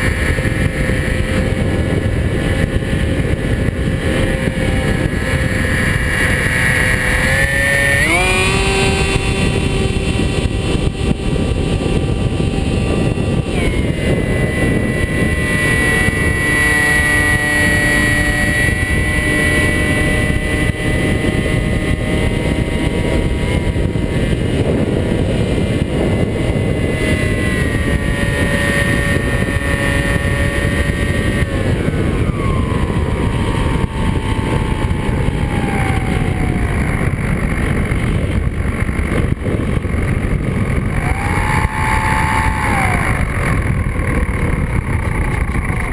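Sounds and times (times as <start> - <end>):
model plane motor whine: 0.0 - 45.9
wind rush: 0.0 - 45.9.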